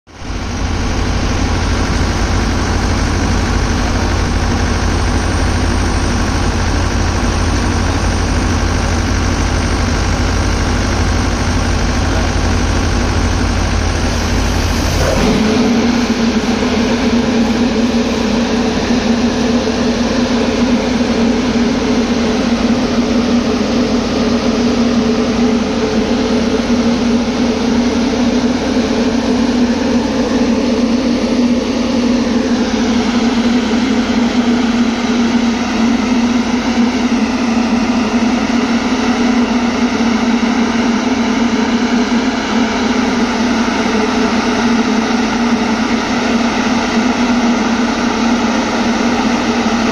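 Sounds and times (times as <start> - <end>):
mist cannon fan rushing air: 0.2 - 49.9.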